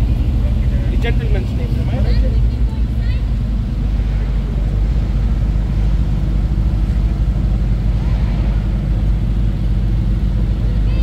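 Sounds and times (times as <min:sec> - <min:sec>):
sports car engines rumbling: 0:00.0 - 0:11.0.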